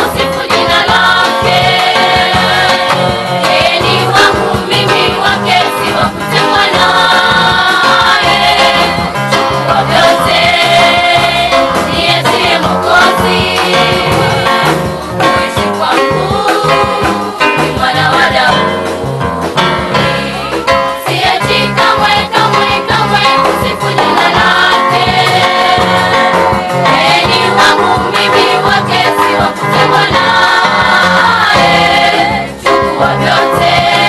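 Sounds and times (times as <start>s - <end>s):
girls choir singing gospel: 0.0s - 19.3s, 19.9s - 34.0s.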